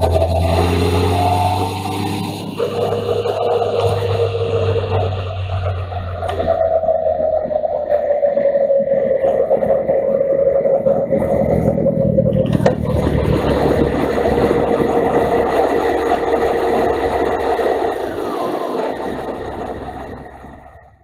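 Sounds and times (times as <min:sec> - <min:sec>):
motorcycle engine running: 0:00.0 - 0:07.8, 0:09.3 - 0:21.0
wind rush on microphone: 0:00.0 - 0:21.0.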